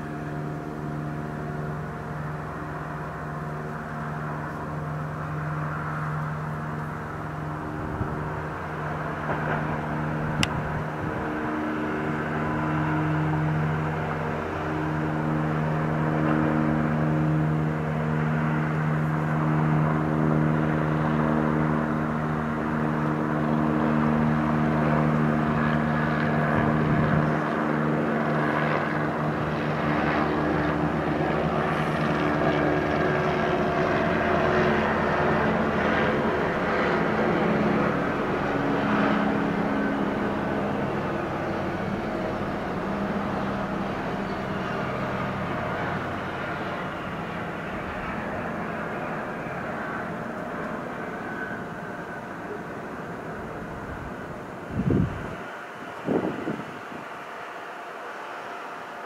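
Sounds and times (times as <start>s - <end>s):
helicopter engine and rotors: 0.0s - 59.0s.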